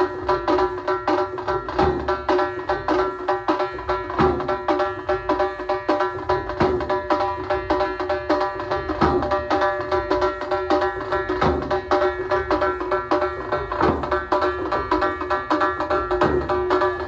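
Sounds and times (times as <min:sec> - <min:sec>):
drum beating fast rhythm: 0:00.0 - 0:17.0.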